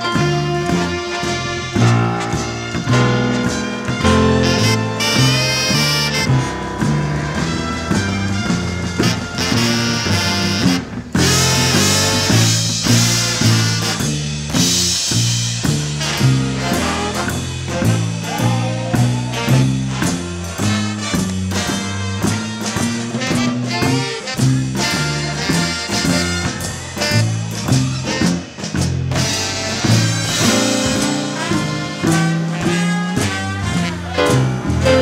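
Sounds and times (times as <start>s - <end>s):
jazz big band swing music: 0.0s - 35.0s.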